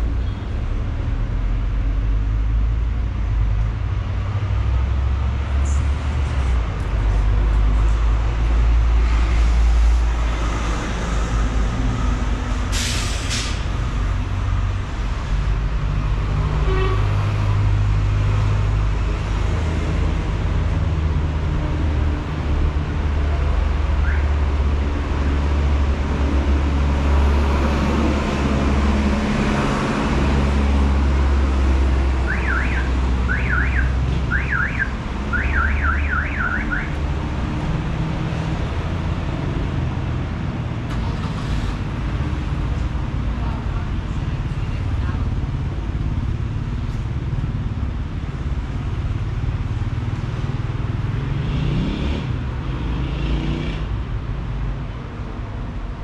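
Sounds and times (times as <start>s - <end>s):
street traffic rumbling: 0.0s - 56.0s.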